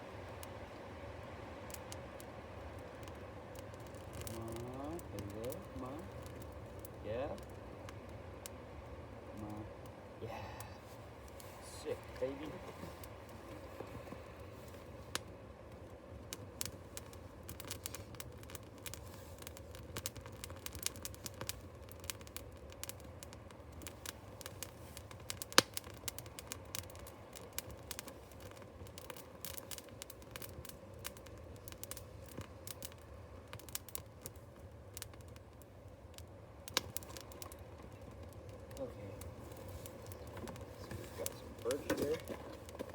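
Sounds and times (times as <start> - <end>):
paper and kindling fire crackling: 0.0 - 42.9.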